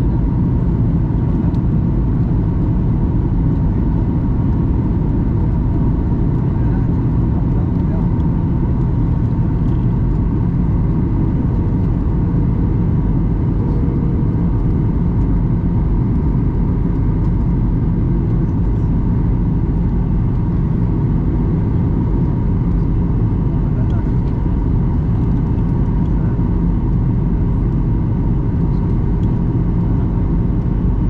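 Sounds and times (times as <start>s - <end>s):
airliner cabin rumble: 0.0s - 31.0s.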